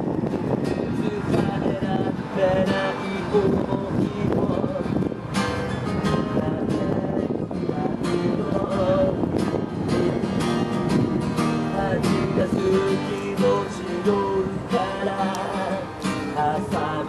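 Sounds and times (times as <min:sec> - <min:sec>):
strummed acoustic guitar music: 0:00.0 - 0:17.0.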